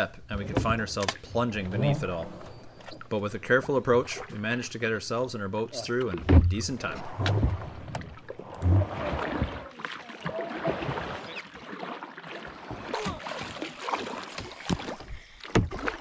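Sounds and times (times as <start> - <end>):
water lapping against canoe hull: 0.0 - 16.0.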